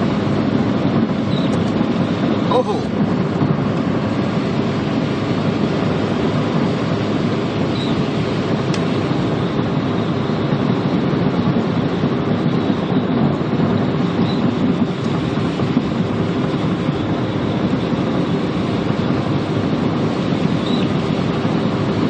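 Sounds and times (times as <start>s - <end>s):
car driving rumble from inside: 0.0s - 22.0s.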